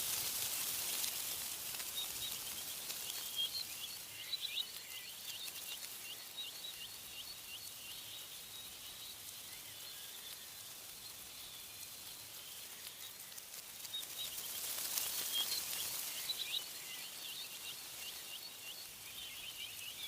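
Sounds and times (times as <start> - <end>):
songbird chirping: 0.0 - 20.0
wind hissing in trees: 0.0 - 20.0.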